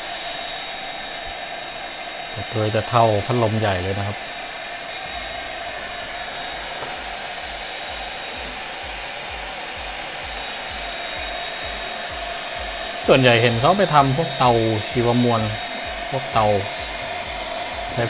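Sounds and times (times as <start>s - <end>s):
blower fan rushing air with whine: 0.0s - 18.0s.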